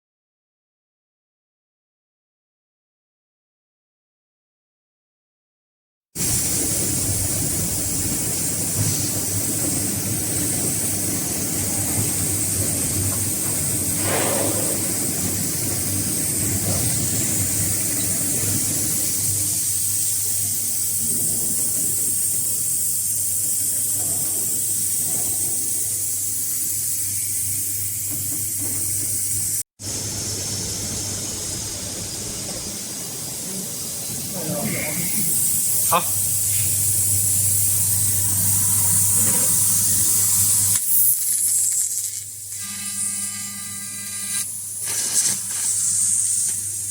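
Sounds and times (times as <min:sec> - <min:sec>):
laser cutter hissing: 0:06.2 - 0:46.9.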